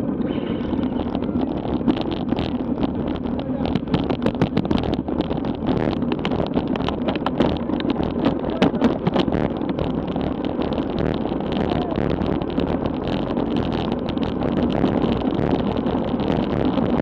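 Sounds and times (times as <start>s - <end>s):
tyres rumbling on asphalt: 0.0s - 17.0s
wind buffeting microphone: 0.0s - 17.0s
bike knocks and rattles: 0.3s - 17.0s.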